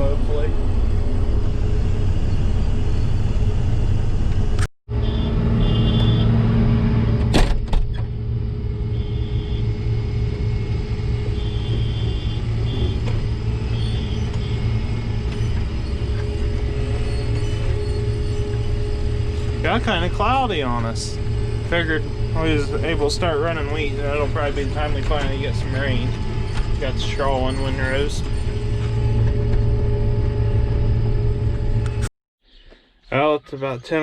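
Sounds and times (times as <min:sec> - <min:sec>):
harvest machinery engine rumble: 0:00.0 - 0:32.1.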